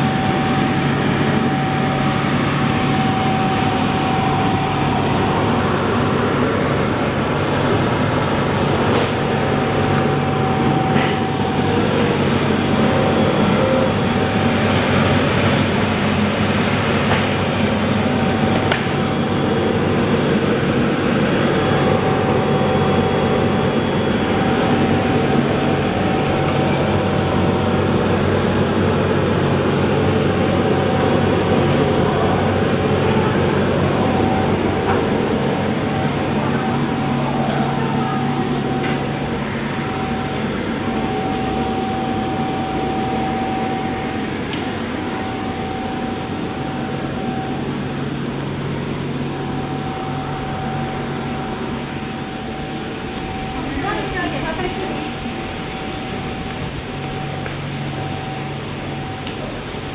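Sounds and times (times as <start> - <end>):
electric blower running: 0.0 - 59.9.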